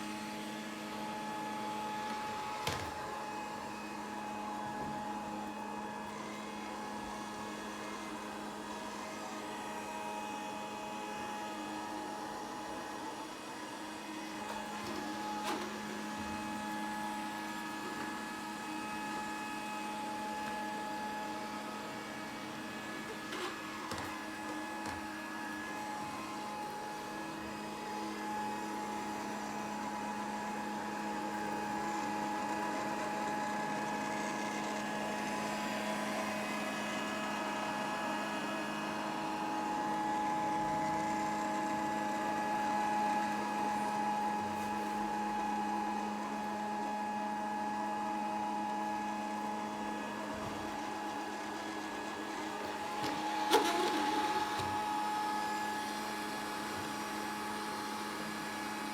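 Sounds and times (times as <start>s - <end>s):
robot vacuum cleaner running: 0.0s - 58.9s.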